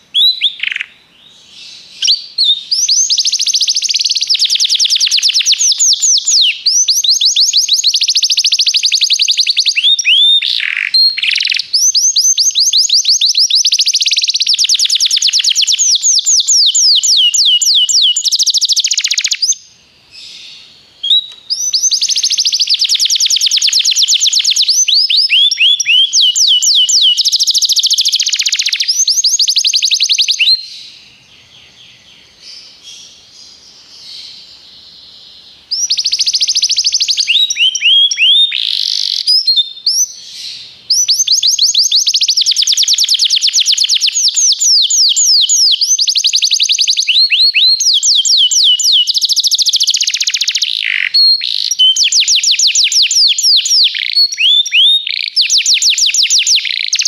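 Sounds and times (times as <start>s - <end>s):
canary singing rolling trills: 0.0s - 57.0s.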